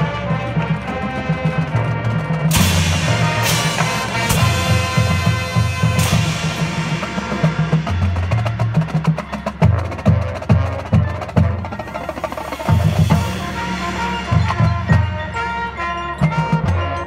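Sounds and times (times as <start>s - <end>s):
rapid snare drum strokes: 0.0s - 16.7s
marching band chord: 0.0s - 17.0s
low bass drum notes: 2.5s - 11.8s, 12.4s - 17.0s.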